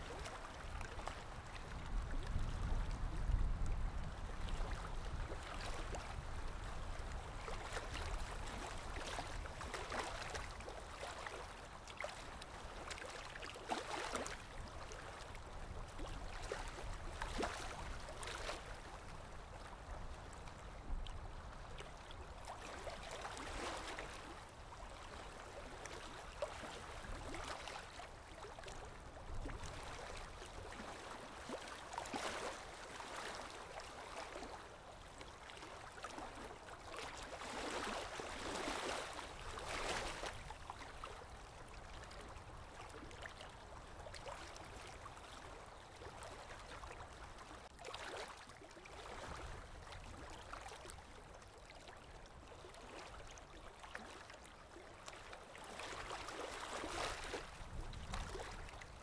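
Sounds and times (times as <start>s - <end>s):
lake water lapping: 0.0s - 59.0s.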